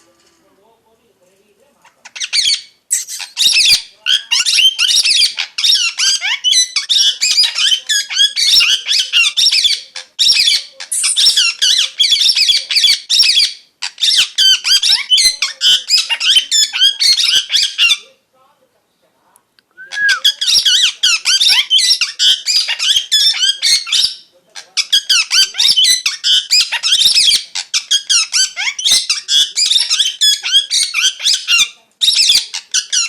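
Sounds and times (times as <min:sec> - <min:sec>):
parrot chirping: 0:01.8 - 0:18.2, 0:19.8 - 0:33.0.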